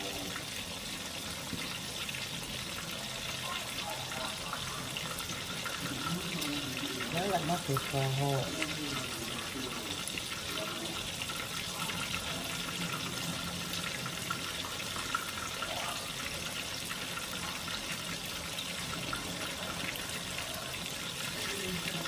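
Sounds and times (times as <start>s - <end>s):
fish frying in hot oil: 0.0s - 22.0s.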